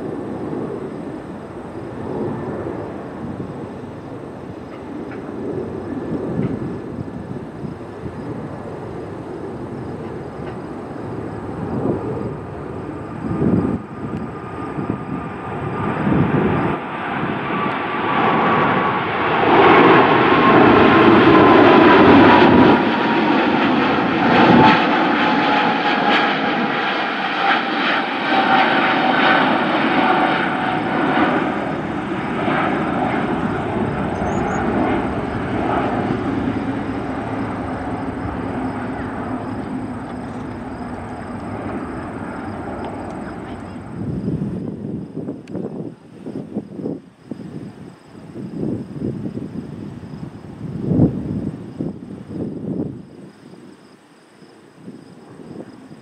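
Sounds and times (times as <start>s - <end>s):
jet airliner flying past: 0.0s - 56.0s
jet engine whine falling in pitch: 0.0s - 56.0s.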